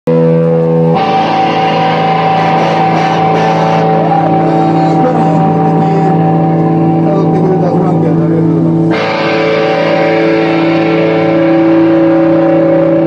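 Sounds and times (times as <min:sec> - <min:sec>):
held guitar chord ringing: 0:00.1 - 0:13.0
live rock band playing: 0:00.1 - 0:13.0.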